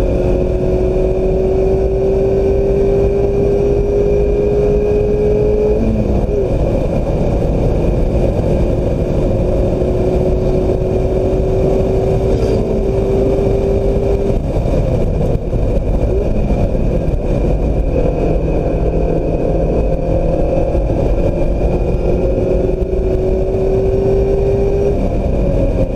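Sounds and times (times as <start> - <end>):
car engine at speed: 0.0 - 25.9
wind and road noise: 0.0 - 25.9.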